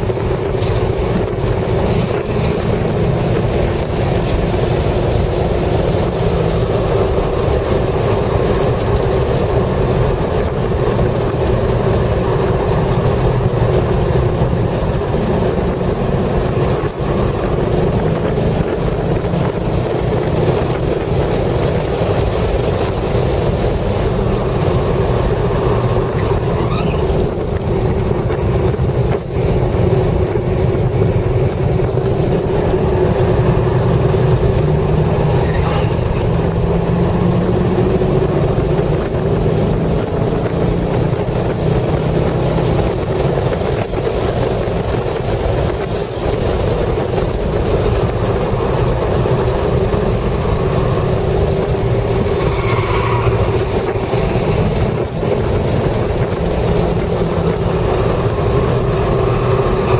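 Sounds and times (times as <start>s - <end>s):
car engine at high revs: 0.0s - 59.9s
wind and road noise: 0.0s - 59.9s.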